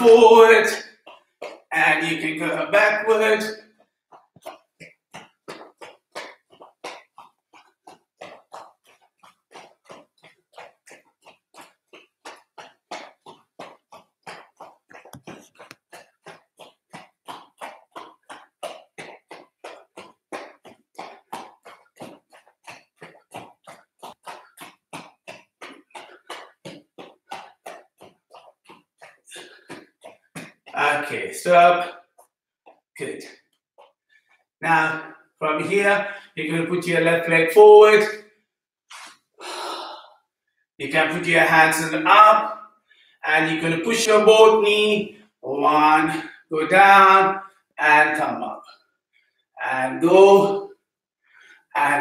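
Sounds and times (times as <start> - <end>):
barefoot jogging on foam mats: 0.0 - 52.0.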